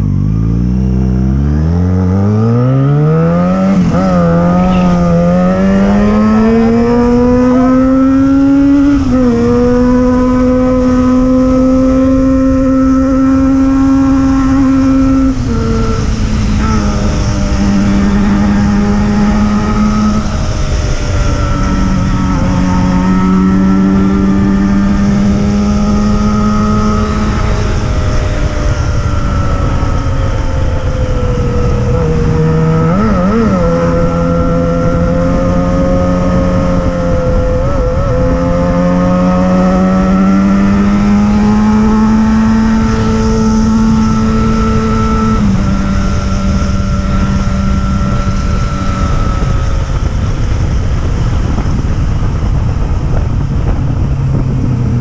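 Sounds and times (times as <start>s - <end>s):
motorcycle engine cruising: 0.0s - 55.0s
steady rushing noise: 0.0s - 55.0s.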